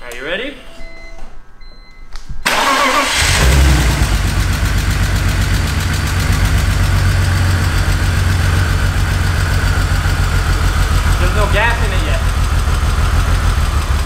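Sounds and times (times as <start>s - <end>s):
car engine idling: 2.5s - 14.0s.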